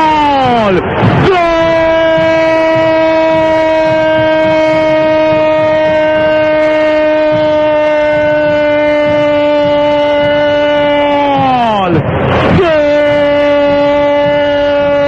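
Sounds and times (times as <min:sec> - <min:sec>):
commentator shouting goal: 0:00.0 - 0:15.0.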